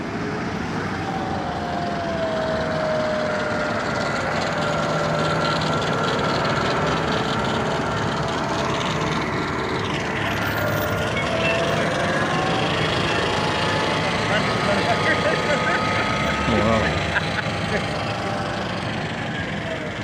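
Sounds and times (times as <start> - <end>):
bus engine whine: 0.0 - 20.0
road noise: 0.0 - 20.0.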